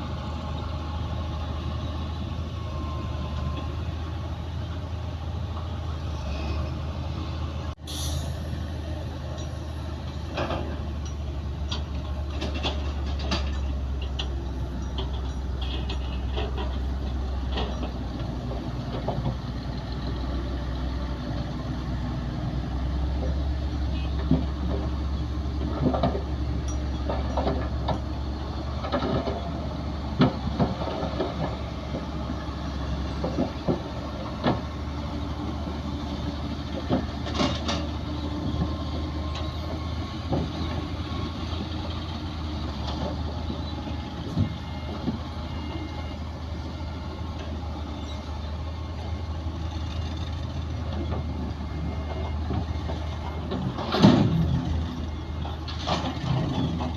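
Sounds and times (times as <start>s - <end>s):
heavy diesel machinery humming: 0.0s - 56.9s.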